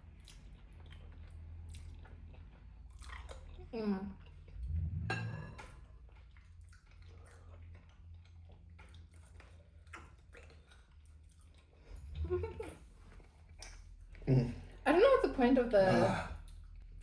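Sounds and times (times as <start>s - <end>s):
low steady hum: 0.0s - 17.0s
wet mouth eating noises: 0.1s - 14.3s.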